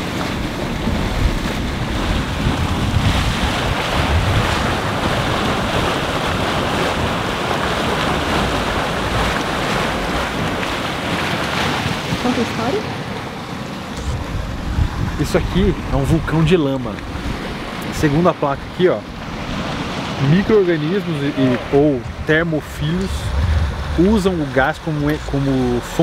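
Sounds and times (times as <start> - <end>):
wind on microphone: 0.0 - 12.9, 13.8 - 26.0
hot spring vent churning and hissing: 0.0 - 26.0.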